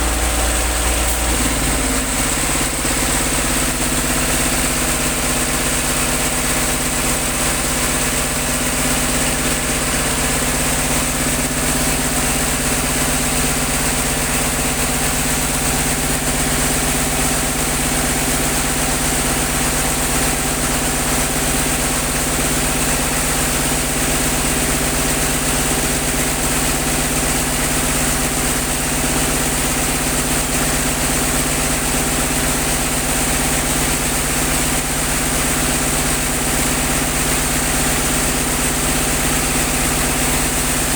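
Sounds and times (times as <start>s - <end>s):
air compressor engine running: 0.0s - 40.9s.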